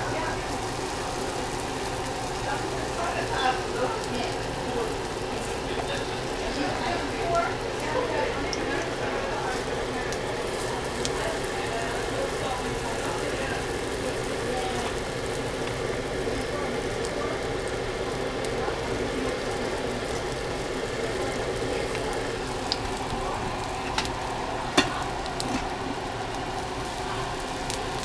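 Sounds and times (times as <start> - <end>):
dumplings sizzling in oil: 0.0 - 28.0.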